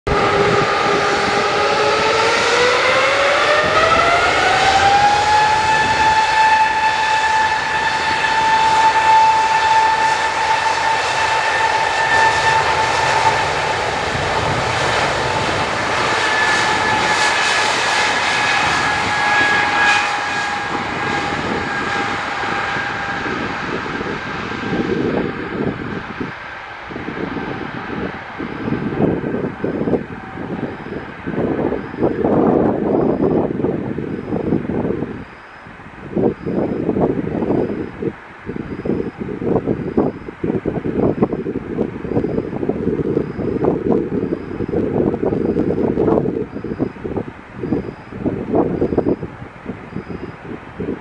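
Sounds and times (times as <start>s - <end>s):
jet engines spooling up: 0.1s - 51.0s.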